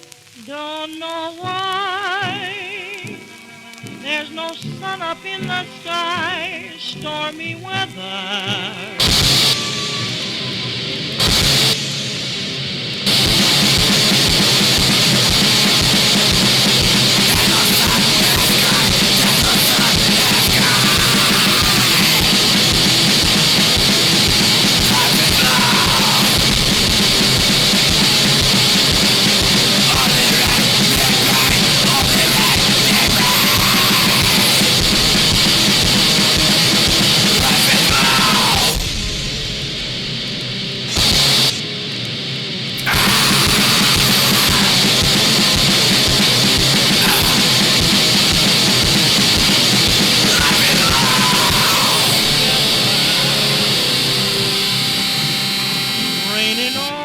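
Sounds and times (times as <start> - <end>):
harsh distorted noise music: 8.5 - 57.0
squealing feedback tones: 9.0 - 12.3, 13.1 - 41.6, 42.8 - 57.0.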